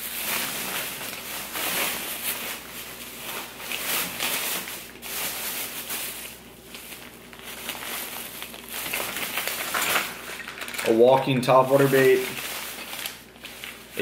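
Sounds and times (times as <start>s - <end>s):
plastic bag rustling: 0.0s - 14.0s.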